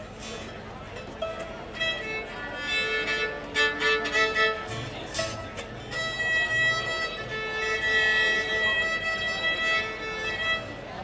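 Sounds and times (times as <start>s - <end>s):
fiddle melody: 0.0s - 11.0s.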